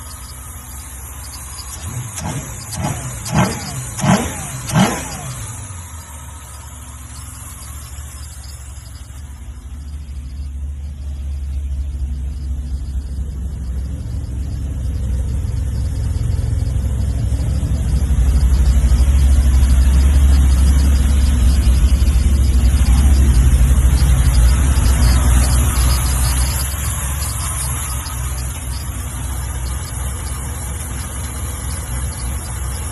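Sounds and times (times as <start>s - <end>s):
car engine deep rumble: 0.0s - 32.9s.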